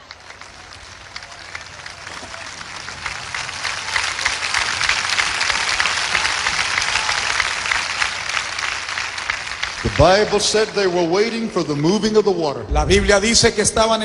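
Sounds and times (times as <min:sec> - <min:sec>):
congregation applauding: 0:00.0 - 0:12.2.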